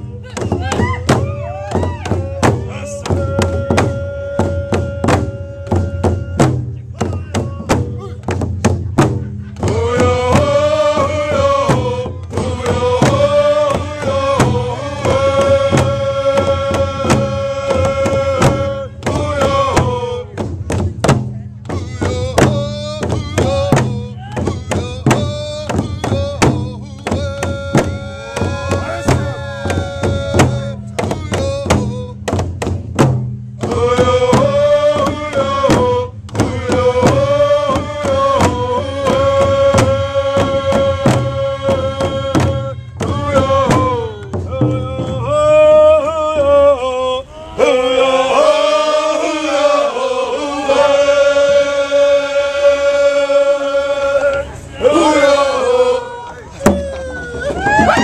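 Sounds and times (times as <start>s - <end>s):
men singing in unison: 0.0s - 8.3s, 9.5s - 20.8s, 21.6s - 32.8s, 33.6s - 58.0s
frame drums beating: 0.0s - 46.6s, 54.8s - 58.0s.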